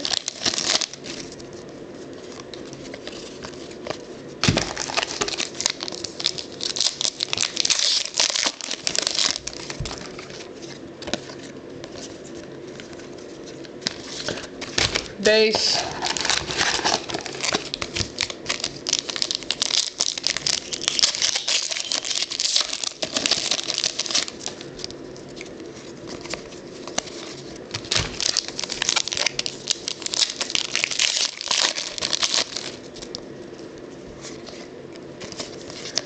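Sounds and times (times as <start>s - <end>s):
cards being flipped through: 0.0s - 33.2s
wrappers crinkling: 0.0s - 33.2s, 34.2s - 36.0s.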